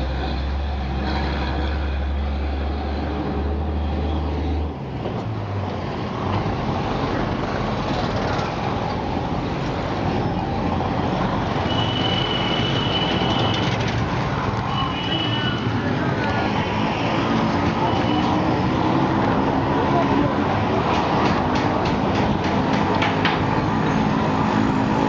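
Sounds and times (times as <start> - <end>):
road noise rushing: 0.0 - 25.0.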